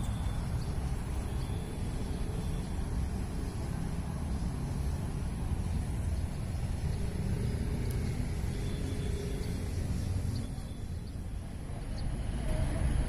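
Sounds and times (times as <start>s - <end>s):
passing traffic rumble: 0.0s - 13.0s.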